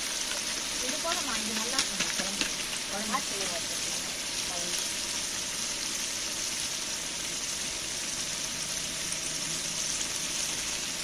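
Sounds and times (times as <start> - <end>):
curry sizzling in a pot: 0.0 - 11.0.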